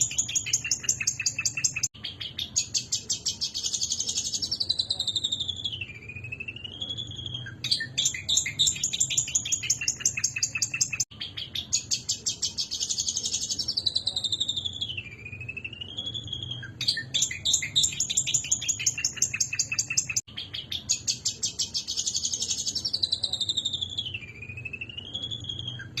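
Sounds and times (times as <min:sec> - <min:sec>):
bird chattering song: 0:00.0 - 0:26.0.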